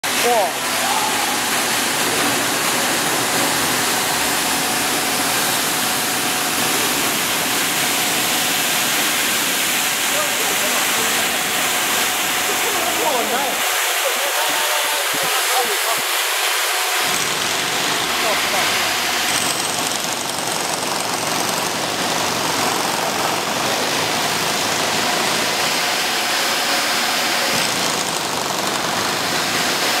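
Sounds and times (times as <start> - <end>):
washing machine running: 0.0 - 30.0
water jets spraying: 0.0 - 30.0.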